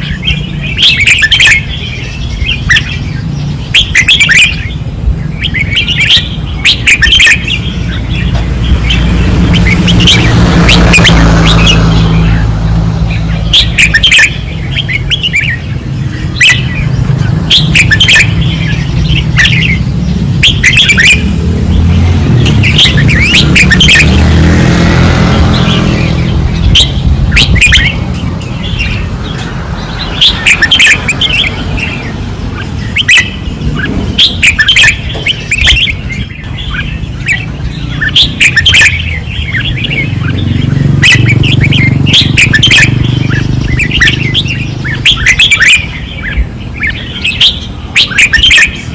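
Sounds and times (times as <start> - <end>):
bulbuls singing: 0.0 - 48.9.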